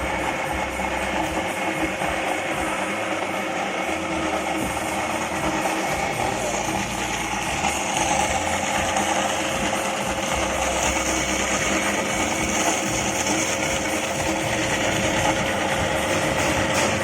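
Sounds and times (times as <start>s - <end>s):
constant hum: 0.0s - 17.0s
dehulling machine running: 0.0s - 17.0s.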